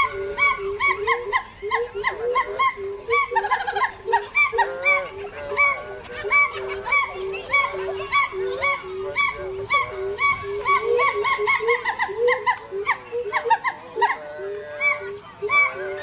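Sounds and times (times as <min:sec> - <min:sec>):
flock of birds calling: 0:00.0 - 0:16.0.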